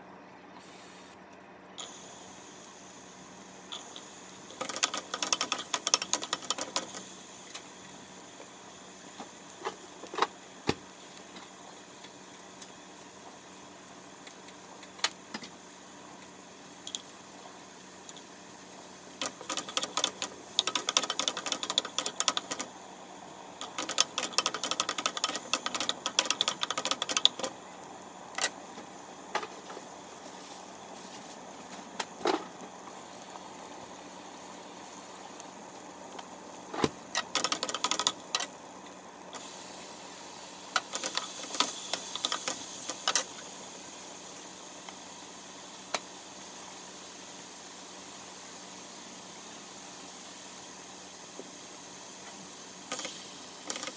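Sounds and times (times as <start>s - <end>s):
onions frying in oil: 1.8s - 26.5s, 27.1s - 37.2s, 38.2s - 53.8s.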